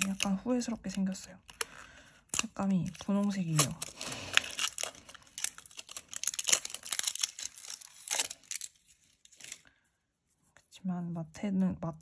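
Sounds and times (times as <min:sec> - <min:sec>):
masking tape crinkling and tearing: 0:00.0 - 0:09.6.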